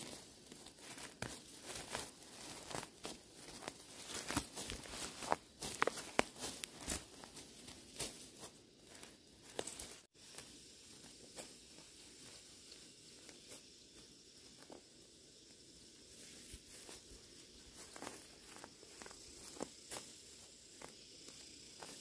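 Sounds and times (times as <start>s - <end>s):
weeds pulled from dry soil: 0.0s - 22.0s.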